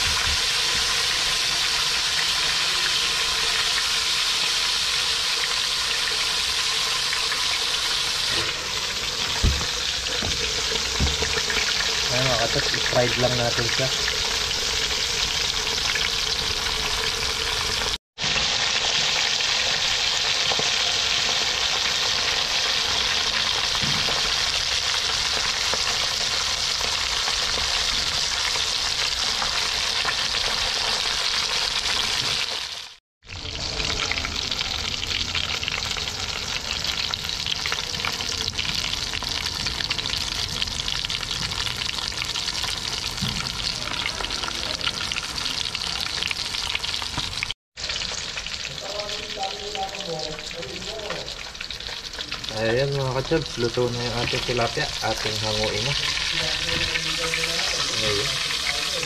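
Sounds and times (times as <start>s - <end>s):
fish deep-frying in hot oil: 0.0s - 59.0s.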